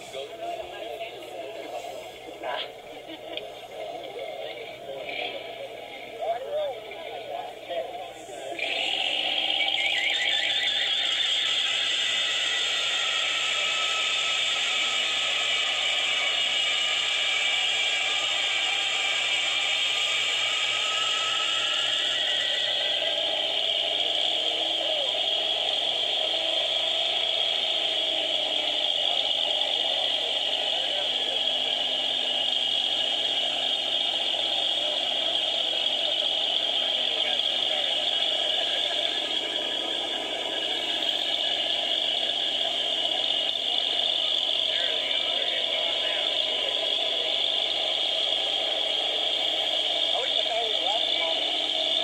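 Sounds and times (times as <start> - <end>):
high whine: 0.0 - 52.0
engine at high revs: 8.6 - 52.0.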